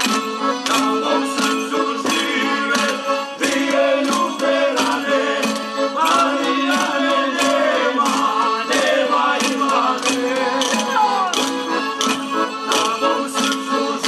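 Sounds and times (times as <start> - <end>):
men singing together: 0.6 - 14.0.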